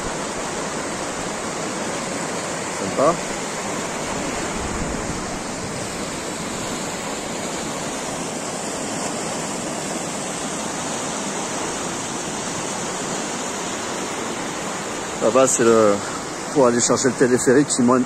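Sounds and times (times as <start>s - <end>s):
rushing mountain stream: 0.0s - 18.0s.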